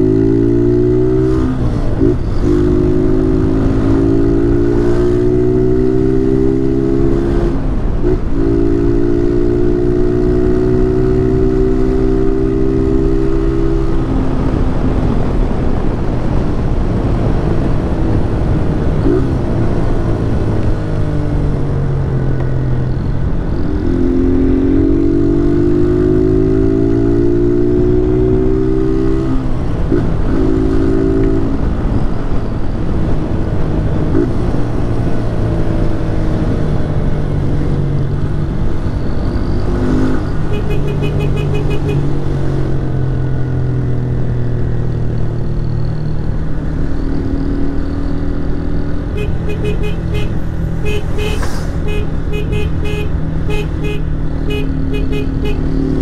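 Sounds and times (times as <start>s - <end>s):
motorcycle engine accelerating: 0.0s - 16.4s, 17.0s - 56.0s
wind and road noise: 0.0s - 56.0s.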